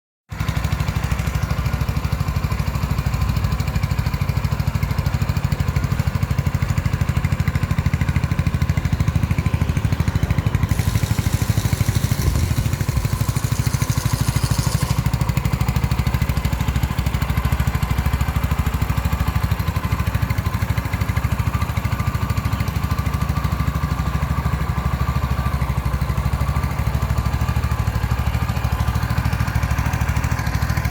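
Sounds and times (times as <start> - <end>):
motorcycle engine idling: 0.4 - 30.9.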